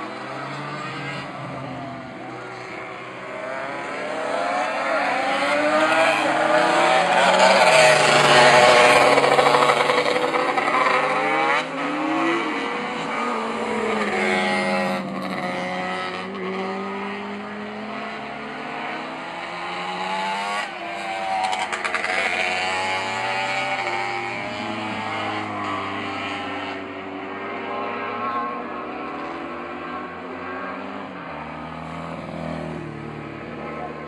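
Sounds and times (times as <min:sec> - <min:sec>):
racing motorcycles revving: 0:00.0 - 0:34.0.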